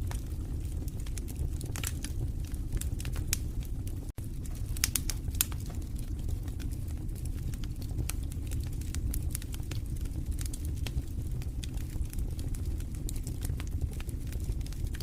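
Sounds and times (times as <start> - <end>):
crackles and pops of logs: 0.0 - 15.0
low rumble of flames: 0.0 - 15.0.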